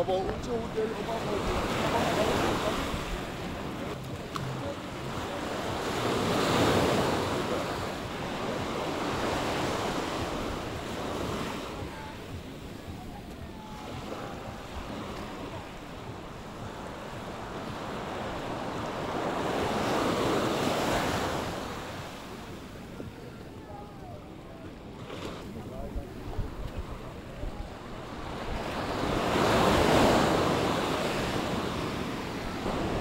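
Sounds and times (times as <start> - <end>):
small waves washing on shore: 0.0 - 33.0
wind on microphone: 1.2 - 33.0.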